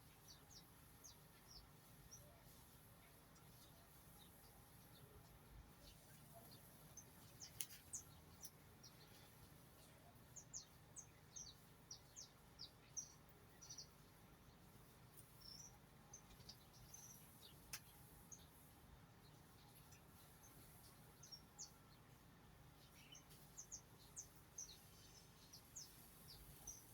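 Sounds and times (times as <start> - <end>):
faint low hum: 0.0 - 26.9
small birds chirping faintly: 0.0 - 26.9.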